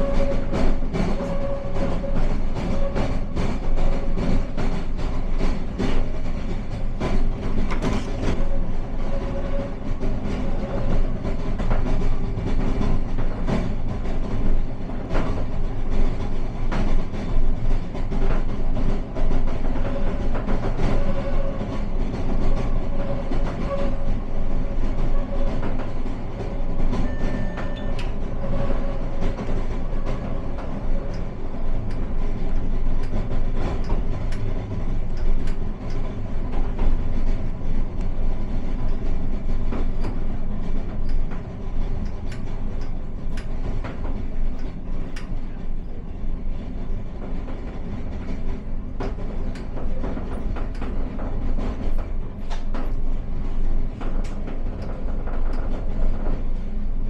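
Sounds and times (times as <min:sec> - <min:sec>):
train rumbling: 0:00.0 - 0:57.0
wheels clicking on track: 0:00.0 - 0:57.0.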